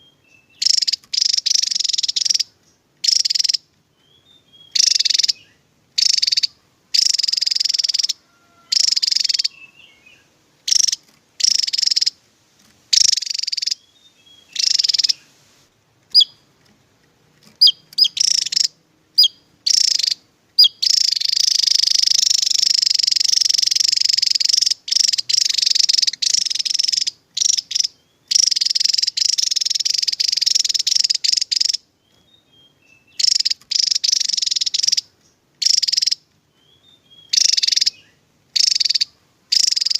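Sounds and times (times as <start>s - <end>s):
bird buzzy trilling song: 0.0s - 15.4s, 16.0s - 39.9s.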